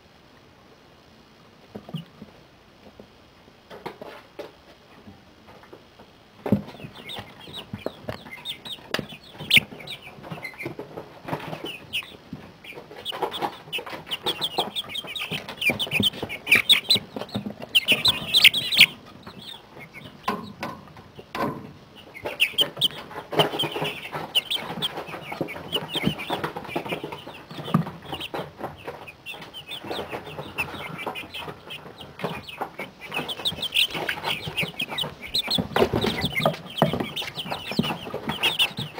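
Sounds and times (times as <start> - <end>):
chicks peeping and clucking: 3.7 - 38.9.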